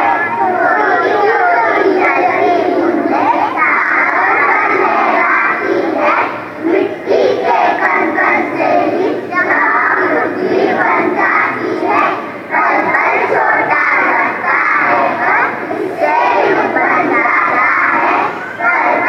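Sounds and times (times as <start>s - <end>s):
boys choir singing in unison: 0.0s - 19.0s.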